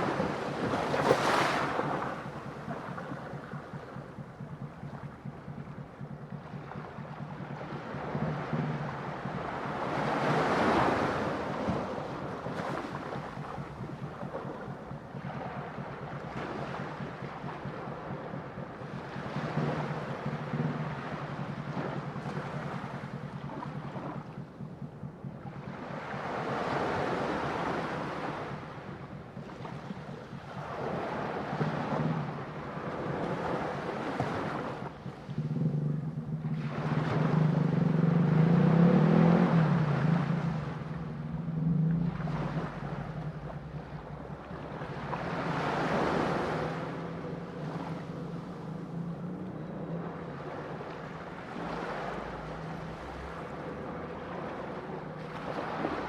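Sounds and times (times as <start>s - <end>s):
low rumble: 0.0s - 56.0s
ocean waves breaking: 0.0s - 56.0s.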